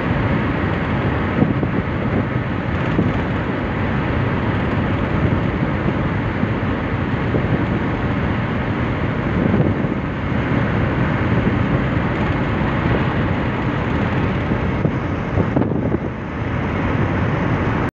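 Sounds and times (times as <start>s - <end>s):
road and wind noise inside car: 0.0s - 17.9s.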